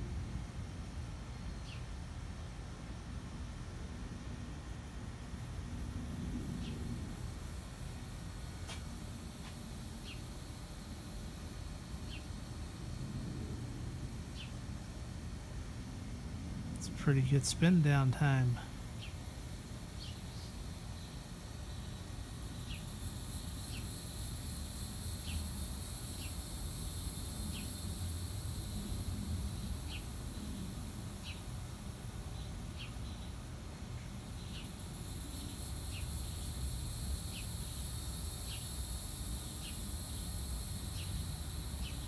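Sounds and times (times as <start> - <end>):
low fan motor hum: 0.0 - 42.0
steady high buzz: 0.0 - 42.0.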